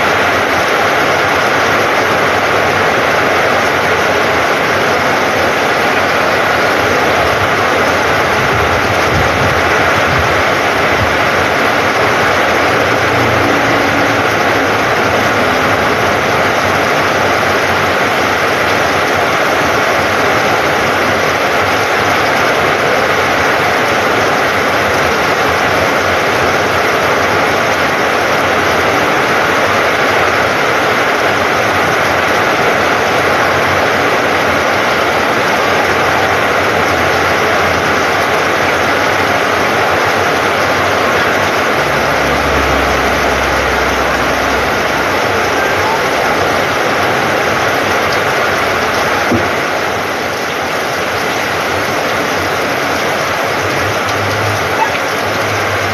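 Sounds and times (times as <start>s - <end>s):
heavy rain on metal roof: 0.0s - 55.9s.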